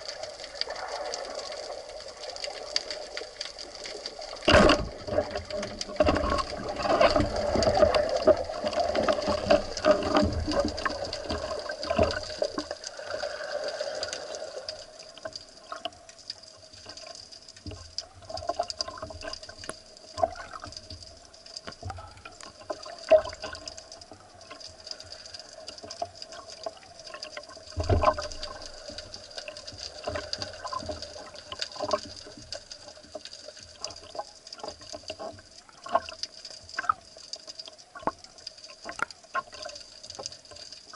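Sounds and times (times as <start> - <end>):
underwater bubbling and rushing: 0.0 - 40.9
water sloshing: 0.0 - 40.9.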